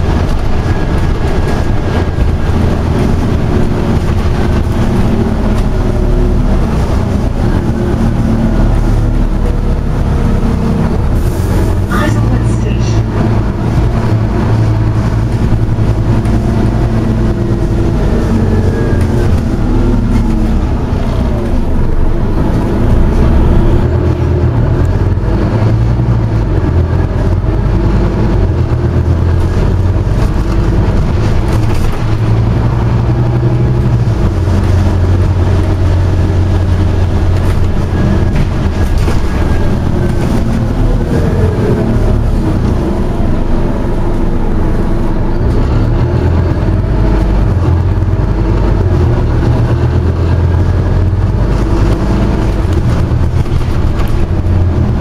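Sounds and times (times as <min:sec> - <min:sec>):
bus diesel engine hum: 0:00.0 - 0:55.0.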